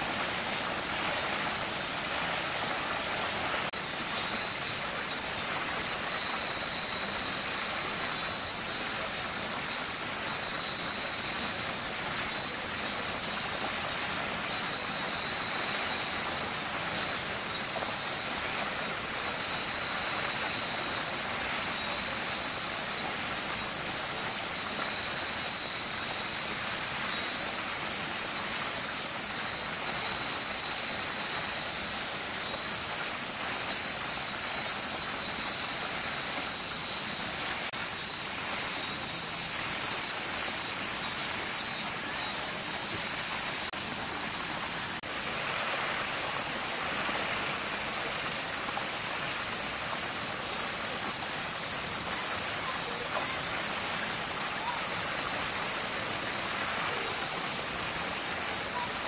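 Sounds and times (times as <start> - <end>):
cicadas chorusing: 0.0 - 59.0.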